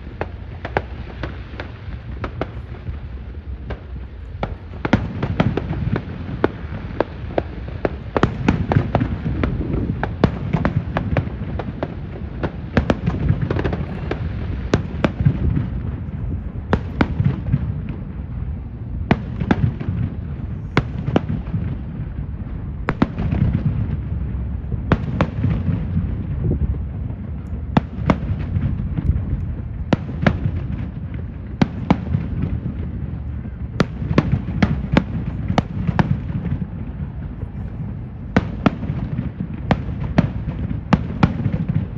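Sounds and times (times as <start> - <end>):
fireworks cracks and pops: 0.0 - 21.8, 22.9 - 41.9
fireworks rumbling: 0.0 - 41.9.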